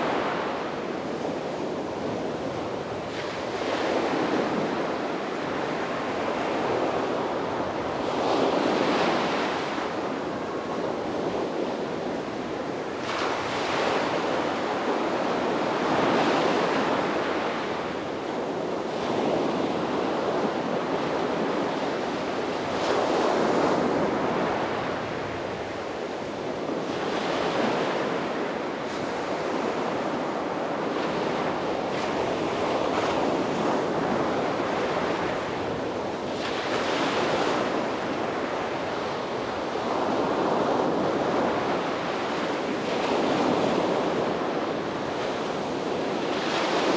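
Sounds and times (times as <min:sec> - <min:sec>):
sea waves breaking on a beach: 0:00.0 - 0:46.9
wind on microphone: 0:00.0 - 0:46.9.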